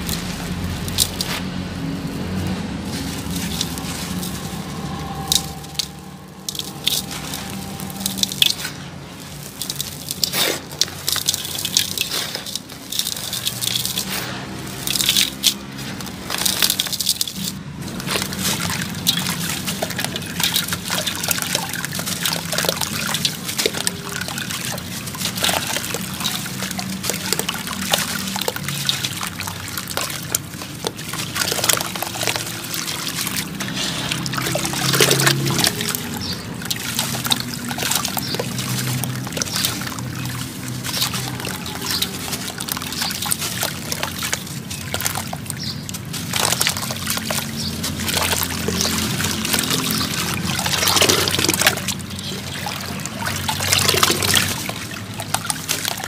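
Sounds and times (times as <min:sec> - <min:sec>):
hands sloshing wet mix: 0:00.0 - 0:56.0.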